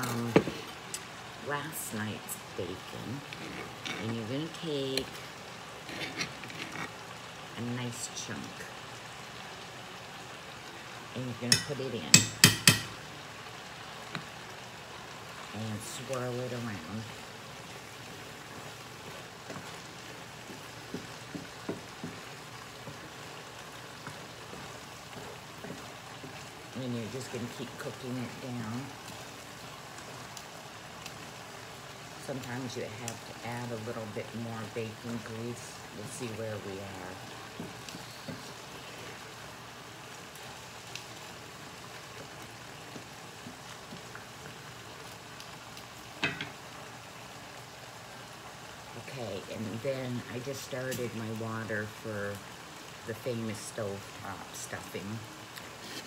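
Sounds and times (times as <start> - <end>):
food sizzling in a pot: 0.0 - 56.0.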